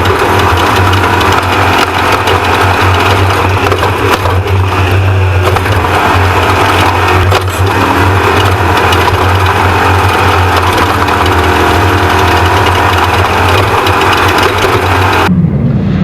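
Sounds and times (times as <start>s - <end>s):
truck engine running hard: 0.0s - 15.8s.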